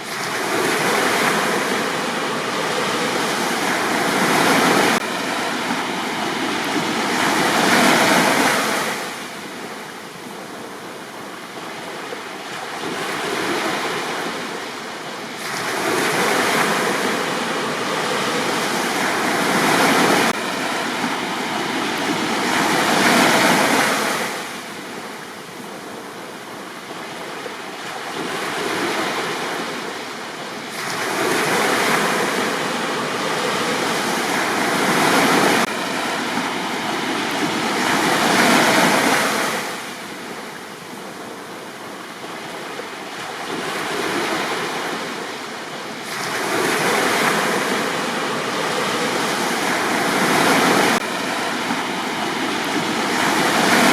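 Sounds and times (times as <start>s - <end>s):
sea waves breaking on beach: 0.0s - 53.9s.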